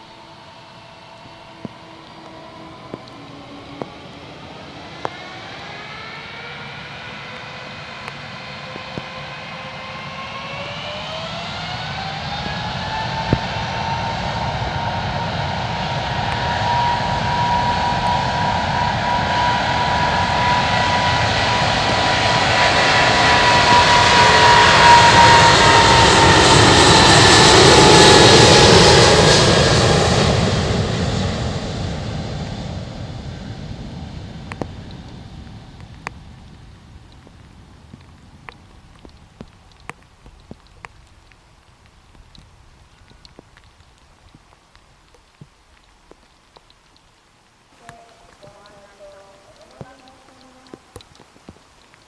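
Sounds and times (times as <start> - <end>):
jet engines whining: 0.0 - 40.7, 47.8 - 51.6
jet aircraft roar: 0.0 - 43.9, 47.8 - 52.0.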